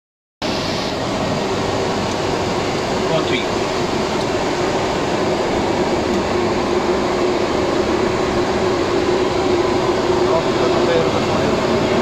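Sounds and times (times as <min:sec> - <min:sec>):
aircraft engines droning: 0:00.4 - 0:12.0
steady cockpit hum: 0:00.4 - 0:12.0.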